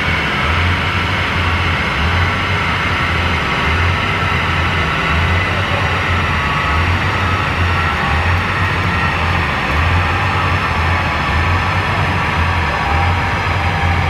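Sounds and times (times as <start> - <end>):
car engine running steadily: 0.0 - 14.0
low throb: 0.0 - 14.0.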